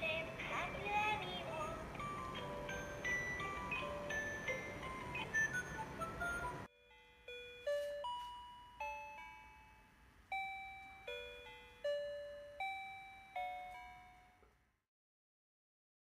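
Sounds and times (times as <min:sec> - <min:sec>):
music box lullaby chime melody: 0:00.0 - 0:14.6.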